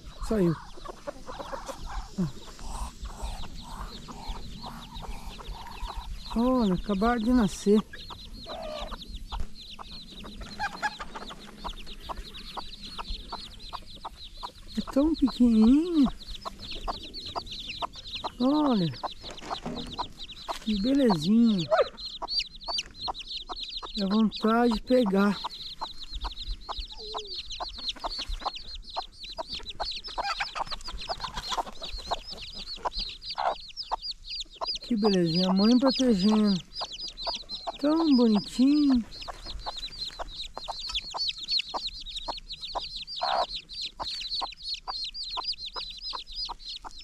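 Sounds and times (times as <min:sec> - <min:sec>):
chicks peeping: 0:00.0 - 0:47.0
hen clucking: 0:00.0 - 0:47.0.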